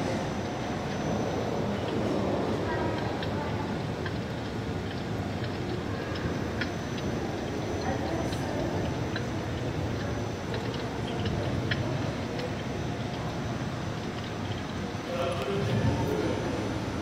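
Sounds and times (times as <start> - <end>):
murmur of distant voices: 0.0 - 17.0.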